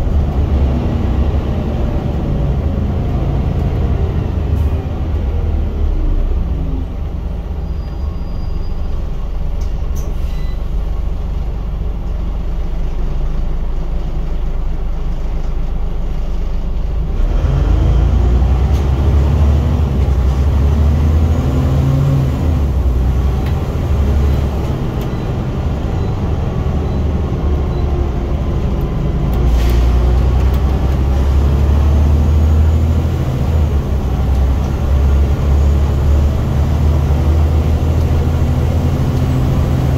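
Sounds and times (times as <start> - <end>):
bus engine revving through gears: 0.0 - 39.9.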